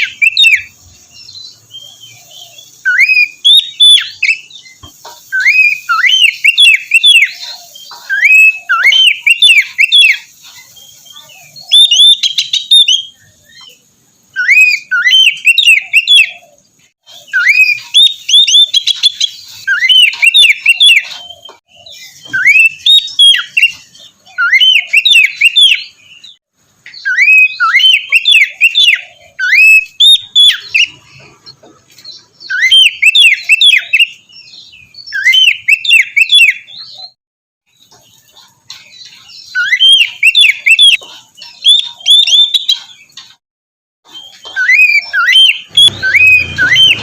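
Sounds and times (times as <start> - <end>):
bird singing upslurred whistles: 0.0 - 10.3, 10.9 - 31.0, 32.4 - 37.2, 39.4 - 42.8, 44.1 - 47.0.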